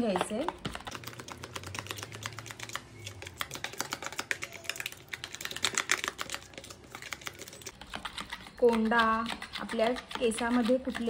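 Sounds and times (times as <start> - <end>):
spoon stirring in plastic bowl: 0.0 - 11.0.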